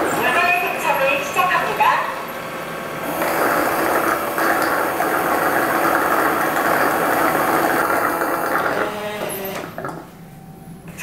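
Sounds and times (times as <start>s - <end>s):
robot vacuum station running: 0.0s - 11.0s.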